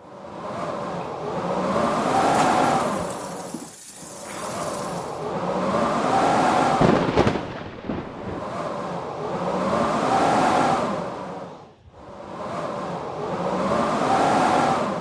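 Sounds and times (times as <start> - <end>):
howling blizzard wind: 0.0 - 15.0.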